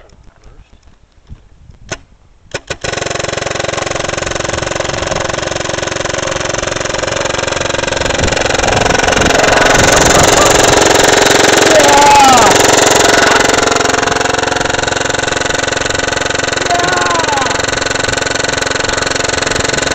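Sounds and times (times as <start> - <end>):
paintball gun rapid fire: 1.9 - 19.9.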